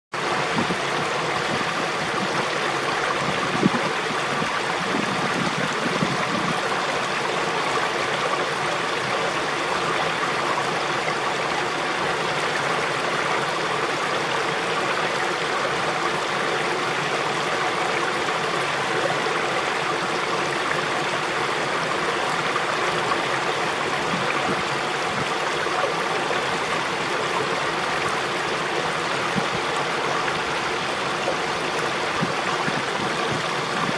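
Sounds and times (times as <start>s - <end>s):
water rushing: 0.2s - 33.9s.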